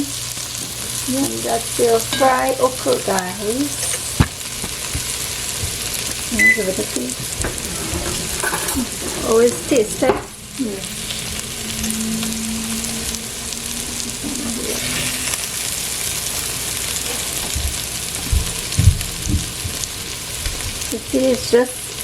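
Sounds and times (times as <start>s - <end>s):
okra sizzling in oil: 0.0s - 22.0s.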